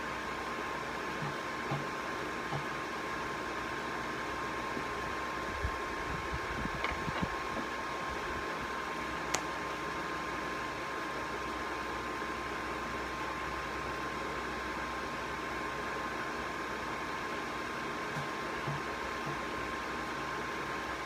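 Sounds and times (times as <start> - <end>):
whirring hiss with hum: 0.0 - 21.0.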